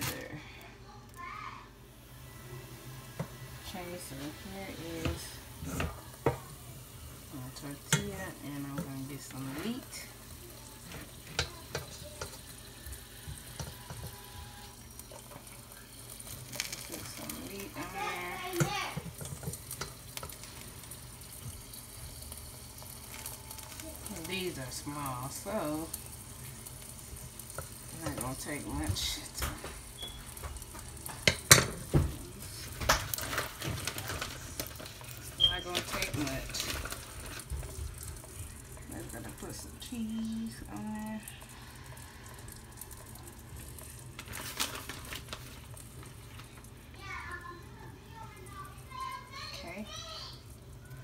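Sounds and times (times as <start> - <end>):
butter sizzling in a frying pan: 0.0 - 51.0.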